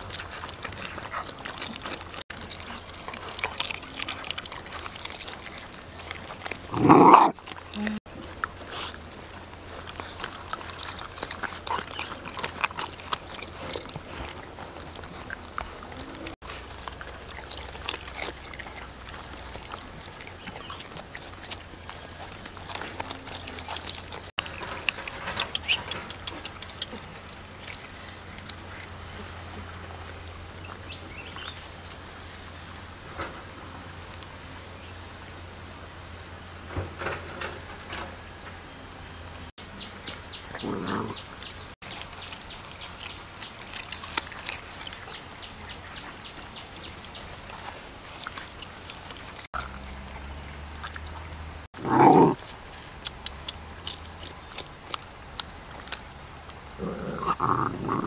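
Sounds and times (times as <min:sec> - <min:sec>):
dogs chewing and smacking: 0:00.0 - 0:34.6, 0:39.6 - 0:58.0.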